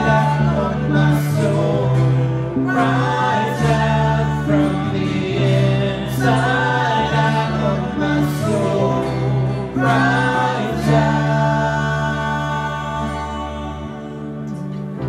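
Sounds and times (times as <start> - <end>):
sustained chords: 0.0 - 15.0
voices singing slow worship song: 0.0 - 15.0.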